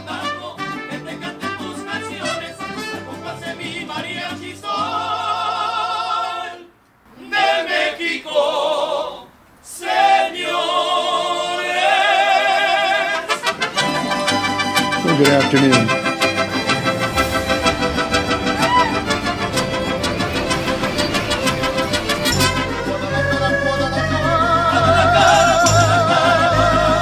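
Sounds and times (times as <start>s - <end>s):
latin background music: 0.0s - 6.6s, 11.8s - 27.0s
singer with wide vibrato: 0.0s - 14.7s, 16.4s - 27.0s.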